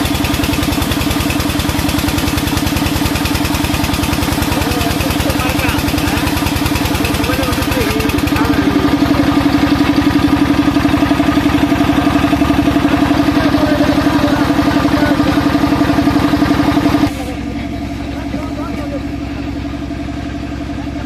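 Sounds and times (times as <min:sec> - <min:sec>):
sawmill machinery humming: 0:00.0 - 0:21.0.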